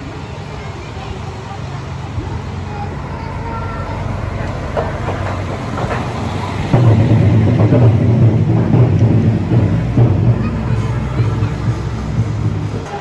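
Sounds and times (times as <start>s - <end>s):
diesel railcar engine humming: 0.0s - 13.0s.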